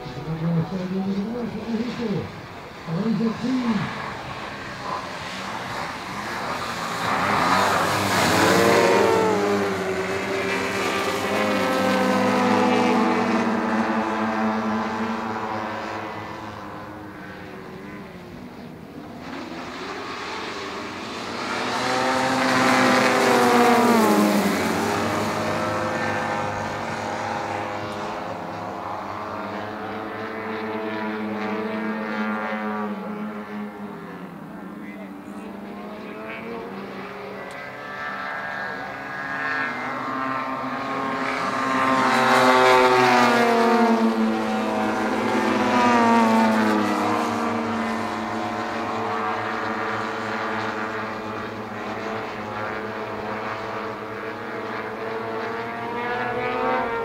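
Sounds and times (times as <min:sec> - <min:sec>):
model plane engines passing: 0:00.0 - 0:57.0.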